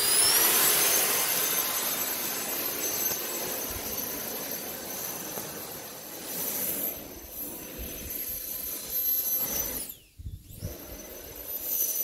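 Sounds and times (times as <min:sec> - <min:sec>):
electric fan high-pitched whine: 0:00.0 - 0:12.0
rushing air: 0:00.0 - 0:12.0.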